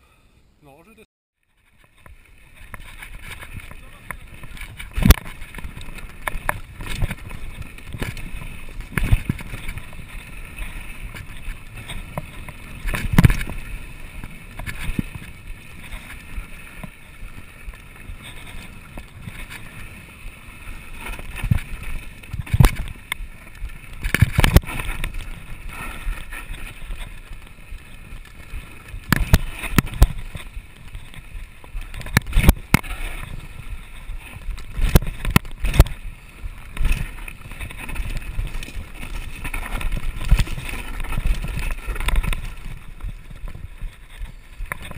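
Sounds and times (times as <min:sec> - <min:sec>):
bike tyres and frame rattling: 0:01.4 - 0:44.9
wheels knocking on rocks: 0:01.5 - 0:44.9.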